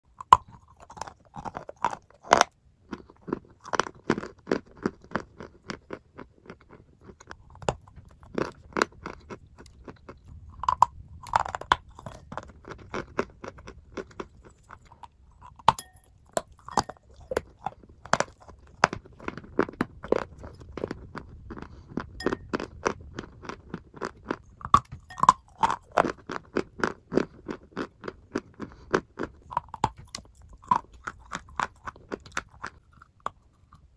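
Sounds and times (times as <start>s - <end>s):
chalk being bitten and chewed: 0.1s - 33.9s.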